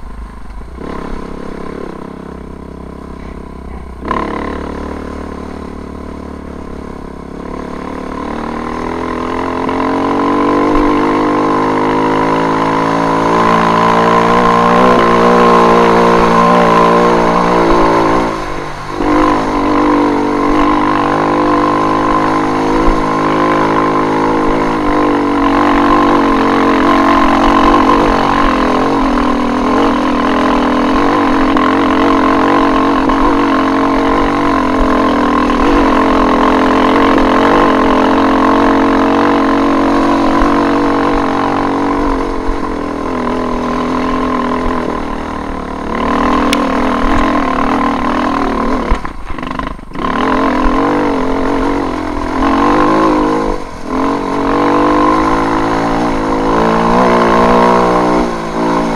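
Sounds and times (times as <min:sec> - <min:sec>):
motorcycle engine under load: 0:00.0 - 0:58.9.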